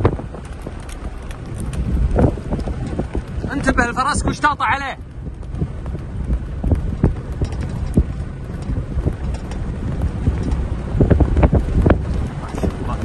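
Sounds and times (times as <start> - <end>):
horse hoofbeats on sand: 0.0 - 13.0
wind rumble on microphone: 0.0 - 13.0.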